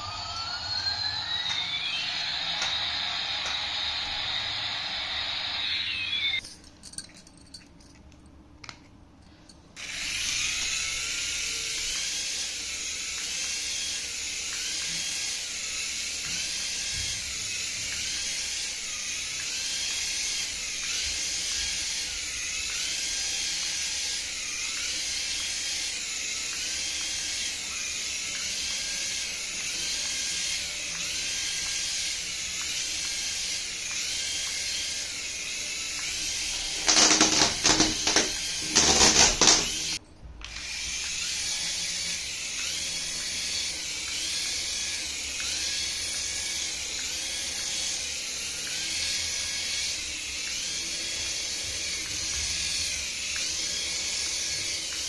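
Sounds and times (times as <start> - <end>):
toy whirring with a hiss: 0.0 - 6.5, 9.4 - 55.0.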